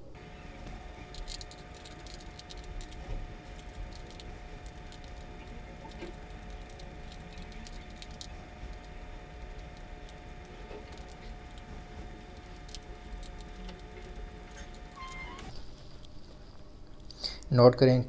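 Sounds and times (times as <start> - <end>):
faint steady hum: 0.0 - 18.0
iron filings rattling on paper: 0.2 - 16.0.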